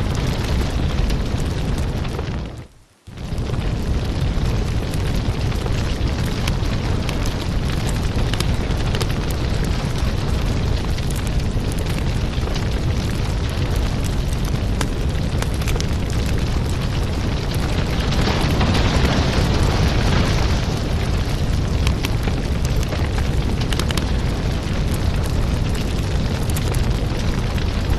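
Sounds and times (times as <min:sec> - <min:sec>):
firewood crackling and popping: 0:00.0 - 0:27.9
low rumble of flames: 0:00.0 - 0:27.9.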